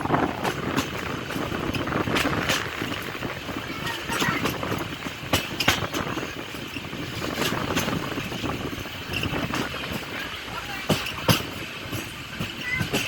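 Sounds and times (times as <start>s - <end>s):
train rumble and hiss: 0.0s - 13.0s
train wheels clacking: 0.0s - 13.0s.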